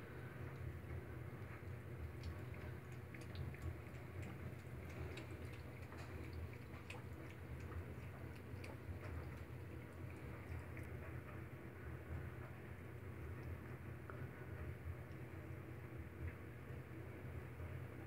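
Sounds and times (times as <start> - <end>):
steady low hum: 0.0 - 18.0
cat lapping from a paper cup: 0.1 - 16.9.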